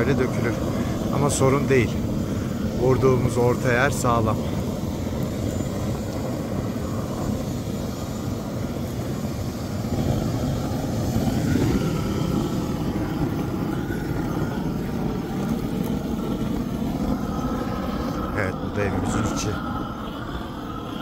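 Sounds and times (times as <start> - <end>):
gas torch flame rushing: 0.0 - 21.0.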